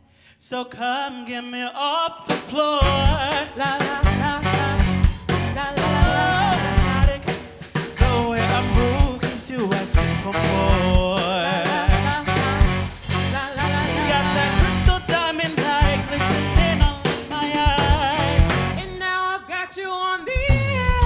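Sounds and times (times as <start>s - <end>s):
drums and bass beat: 2.3s - 19.0s, 20.4s - 21.0s.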